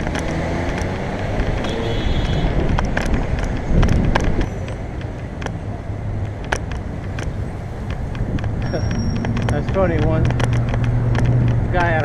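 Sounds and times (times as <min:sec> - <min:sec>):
bicycle clicks and rattles: 0:00.0 - 0:05.6, 0:06.2 - 0:12.0
road traffic rumble: 0:00.0 - 0:12.0.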